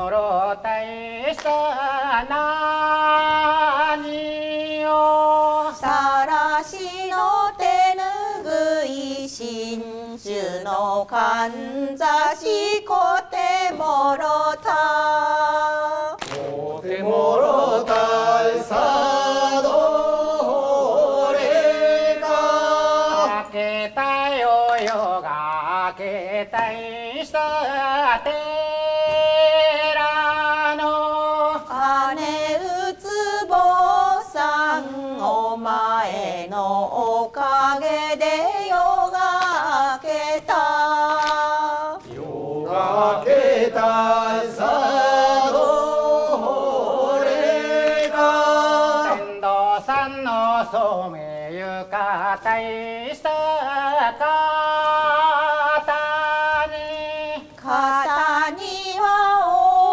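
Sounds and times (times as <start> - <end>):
group singing in chanting style: 0.0 - 59.9.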